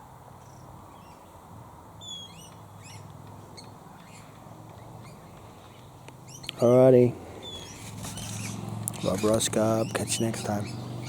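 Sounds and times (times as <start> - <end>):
birds chirping and calling: 0.4 - 1.4, 2.0 - 11.0.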